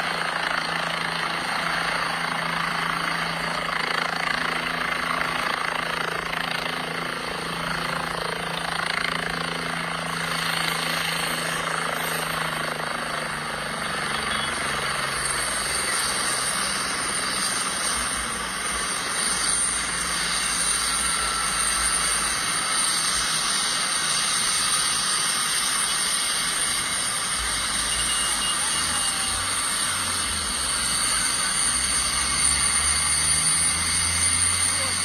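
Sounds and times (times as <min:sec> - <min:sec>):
helicopter running: 0:00.0 - 0:35.0.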